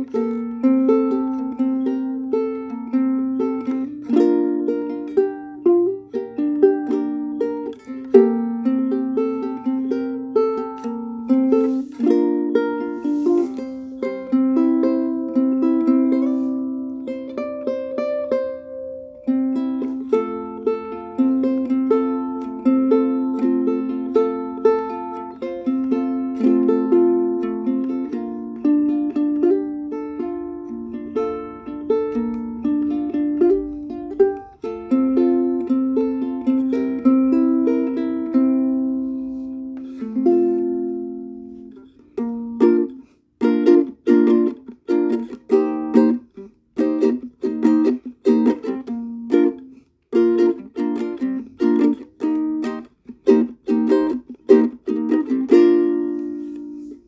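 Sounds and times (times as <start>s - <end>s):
ukulele melody picked: 0.0s - 57.0s
ukulele strummed chords: 0.0s - 57.0s.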